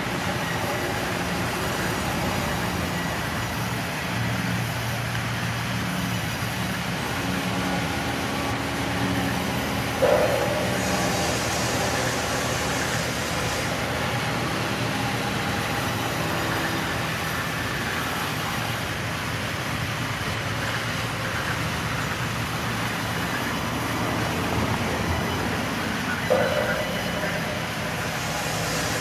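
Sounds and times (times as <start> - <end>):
band saws running: 0.0 - 29.0.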